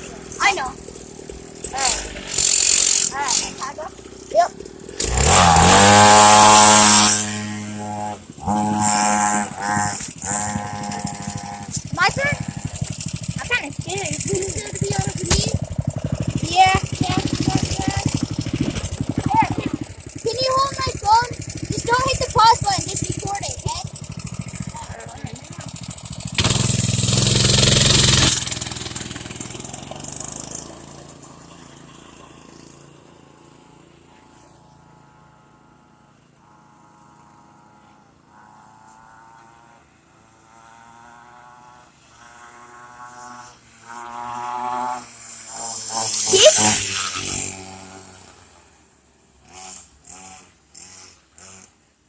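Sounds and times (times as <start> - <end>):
dirt bike engine passing: 0.0 - 48.8, 49.4 - 51.8.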